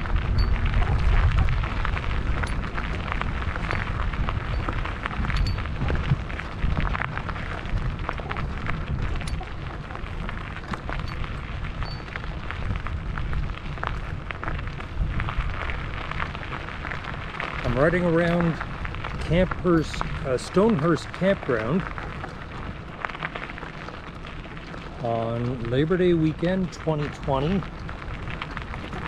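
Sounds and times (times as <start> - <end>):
tyres crunching over gravel: 0.0 - 29.0
wind buffeting microphone: 0.0 - 29.0.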